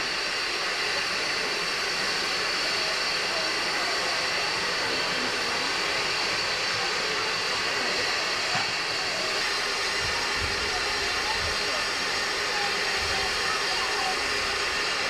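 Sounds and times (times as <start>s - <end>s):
steam hissing from locomotives: 0.0s - 15.0s.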